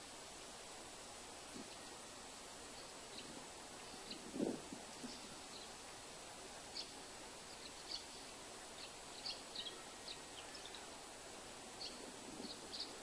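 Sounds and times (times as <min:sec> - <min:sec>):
faint background noise: 0:00.0 - 0:13.0.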